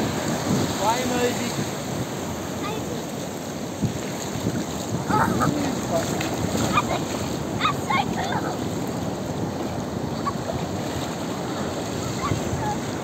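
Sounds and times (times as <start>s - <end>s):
surf washing over sand: 0.0s - 13.0s
wind on microphone: 0.0s - 13.0s.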